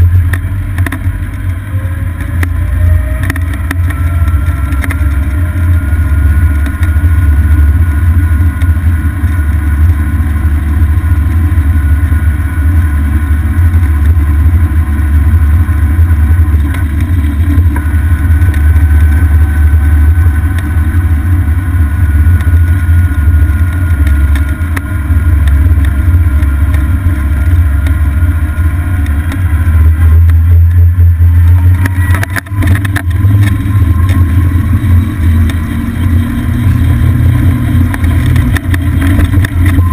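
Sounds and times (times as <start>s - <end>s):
faint thin whine: 0.0s - 39.9s
wind and road noise rumble: 0.0s - 39.9s.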